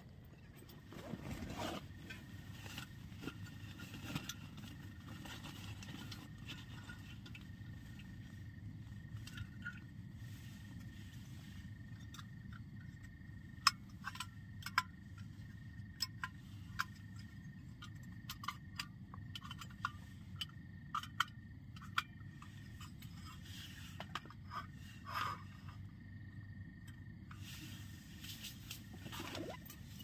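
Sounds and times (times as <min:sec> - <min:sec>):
camping gear clicking and tapping: 0:00.0 - 0:25.9, 0:26.8 - 0:30.0
steady low hum: 0:00.0 - 0:30.0.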